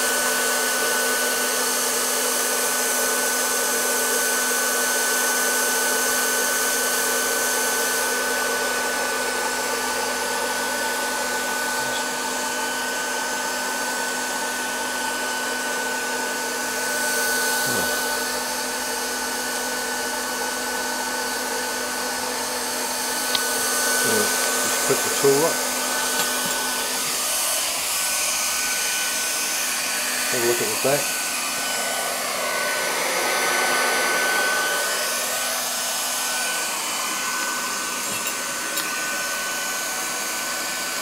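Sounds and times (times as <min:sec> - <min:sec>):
hot air blower rushing with whine: 0:00.0 - 0:41.0.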